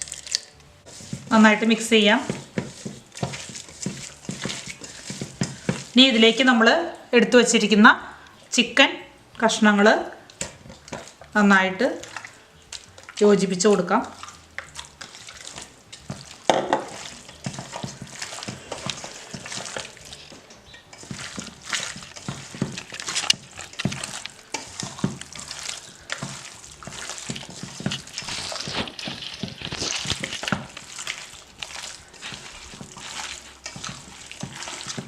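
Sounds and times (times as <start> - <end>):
wet squishing and stirring: 0.0 - 35.0.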